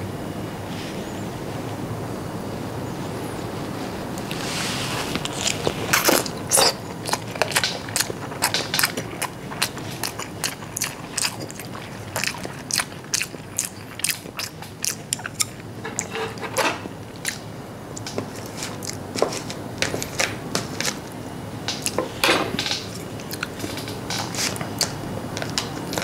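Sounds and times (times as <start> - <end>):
person chewing with lip smacks: 5.0 - 26.0.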